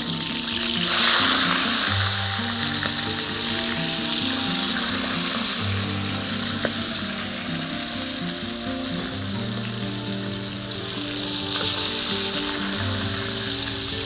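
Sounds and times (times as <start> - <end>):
fish frying in hot oil: 0.0 - 7.7, 8.5 - 14.0.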